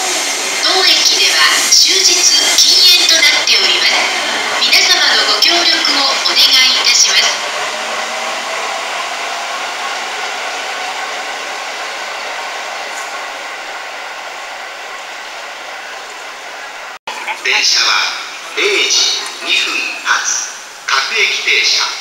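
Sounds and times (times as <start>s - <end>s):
electric train whir and rumble: 0.0s - 17.0s, 17.9s - 22.0s.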